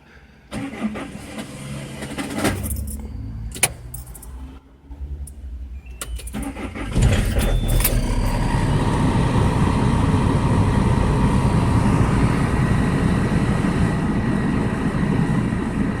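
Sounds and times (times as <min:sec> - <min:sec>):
diesel engine starting and running: 0:00.0 - 0:16.0.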